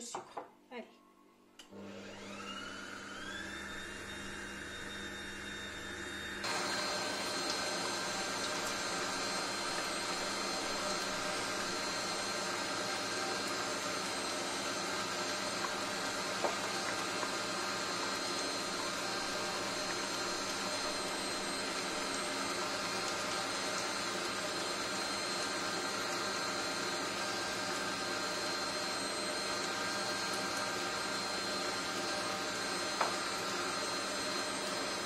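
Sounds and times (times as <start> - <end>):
stand mixer whisking: 1.8 - 35.0.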